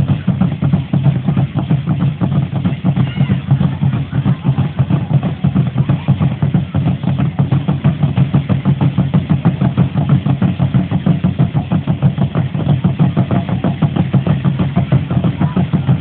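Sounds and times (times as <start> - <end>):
drum beaten in fast rhythm: 0.0 - 16.0.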